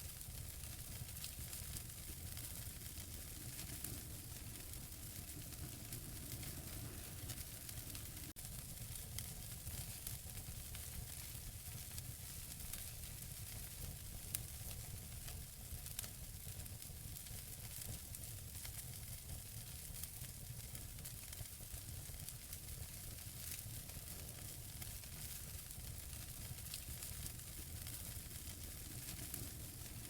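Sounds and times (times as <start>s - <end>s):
wood fire burning: 0.0s - 30.0s.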